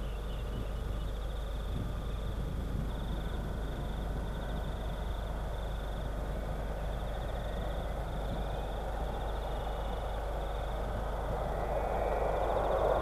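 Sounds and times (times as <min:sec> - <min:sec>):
distant jet airliner rumble: 0:00.0 - 0:13.0
rapid pulsing high buzz: 0:00.6 - 0:13.0.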